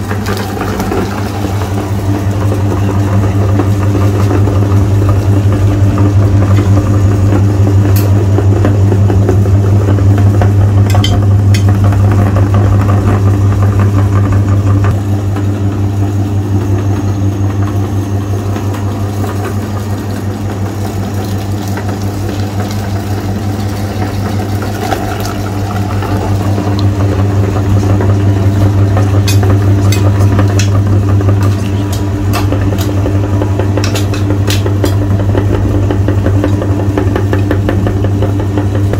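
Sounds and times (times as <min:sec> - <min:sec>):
meat grinder motor humming: 0:00.0 - 0:38.9.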